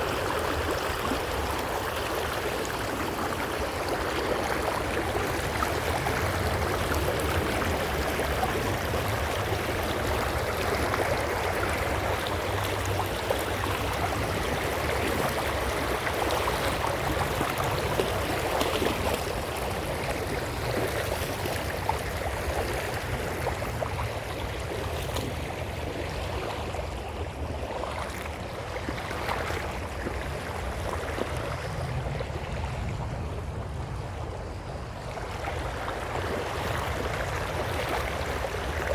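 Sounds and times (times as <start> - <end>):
creek water babbling over stones: 0.0 - 38.9.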